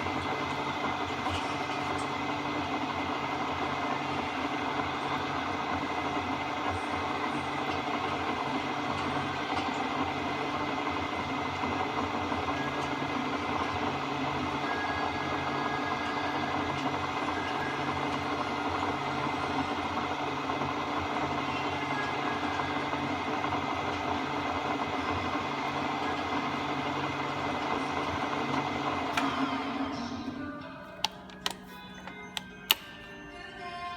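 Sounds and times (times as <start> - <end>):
milling machine humming: 0.0 - 33.9.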